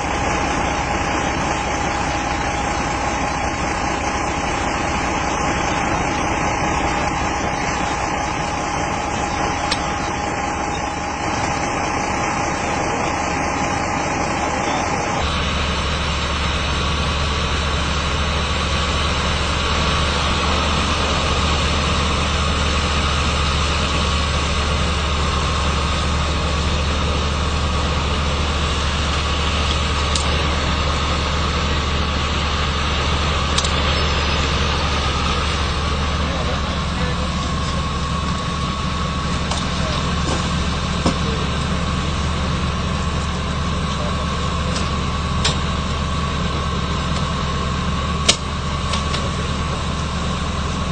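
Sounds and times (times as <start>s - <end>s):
engine-like idling drone: 0.0s - 50.9s
low hum: 0.0s - 50.9s.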